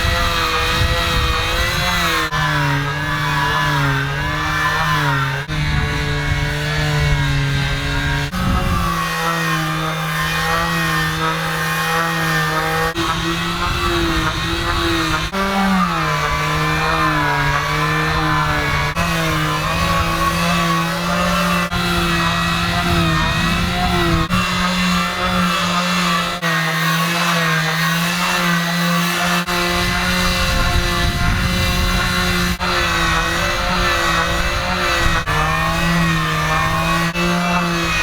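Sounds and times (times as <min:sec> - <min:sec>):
electric sander humming: 0:00.0 - 0:38.0.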